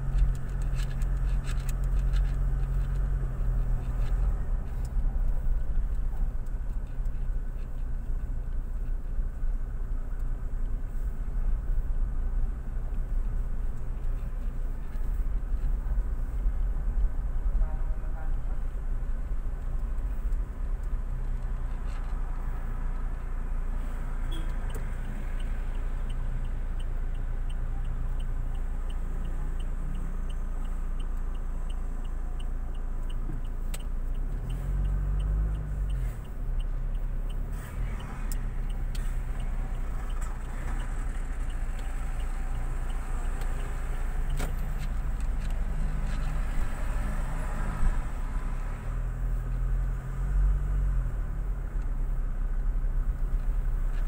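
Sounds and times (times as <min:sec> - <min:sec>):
turn signal clicking: 0:00.0 - 0:17.5, 0:18.4 - 0:54.0
car engine and road rumble: 0:00.0 - 0:54.0.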